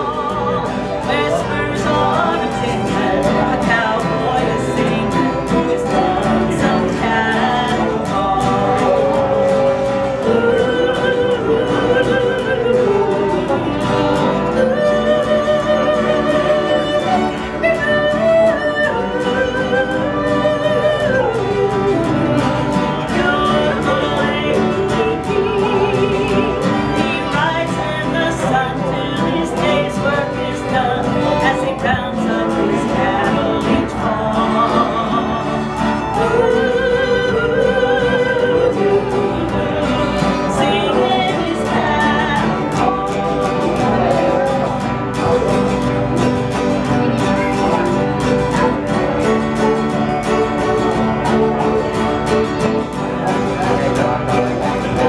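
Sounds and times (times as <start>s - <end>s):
acoustic guitar: 0.0s - 55.0s
fiddle: 0.0s - 55.0s
mandolin: 0.0s - 55.0s
woman singing country song: 0.0s - 55.0s.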